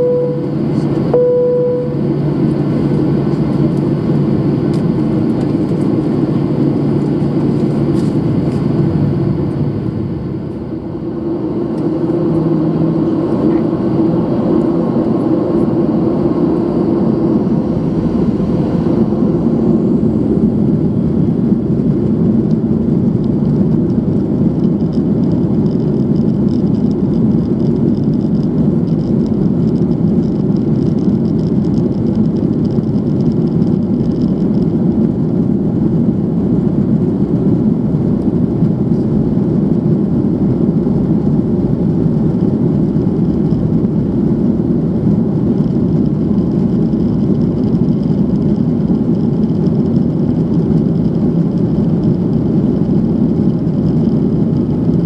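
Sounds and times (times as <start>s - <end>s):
high engine whine: 0.0s - 55.0s
jet engine rumble in cabin: 0.0s - 55.0s.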